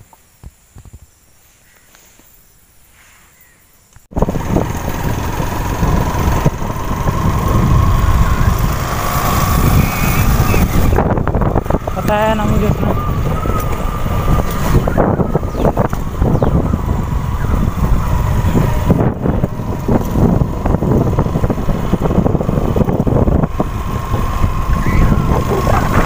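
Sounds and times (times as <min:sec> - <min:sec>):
motorcycle engine running: 0:04.1 - 0:26.0
wind rushing over microphone: 0:04.1 - 0:26.0.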